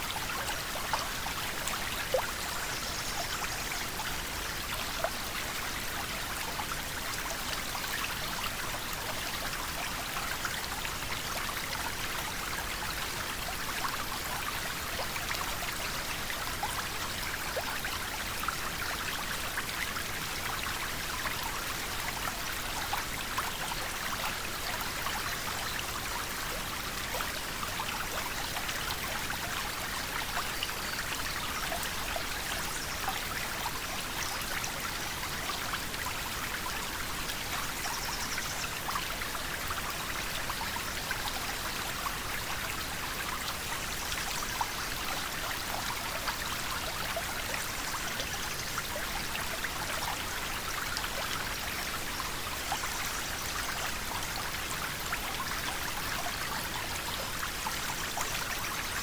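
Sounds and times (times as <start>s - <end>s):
river water rushing and trickling: 0.0s - 59.0s.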